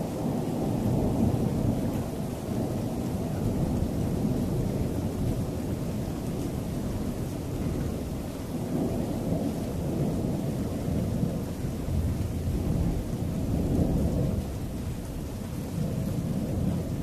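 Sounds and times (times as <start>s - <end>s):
low rumbling thunder: 0.0s - 17.0s
rain falling: 0.0s - 17.0s.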